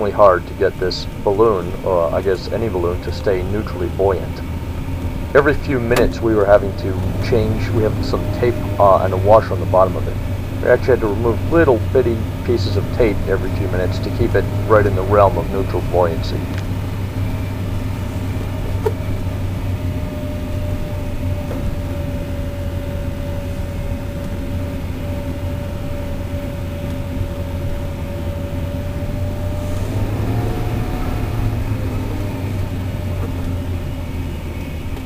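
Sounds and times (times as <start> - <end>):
car engine and road noise: 0.0 - 35.0
steady tone: 0.0 - 35.0.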